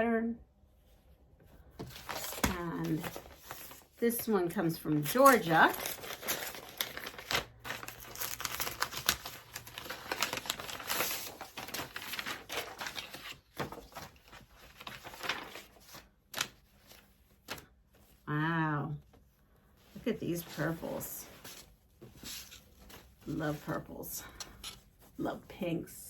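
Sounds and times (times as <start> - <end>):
envelope and fabric rustling: 1.6 - 26.0.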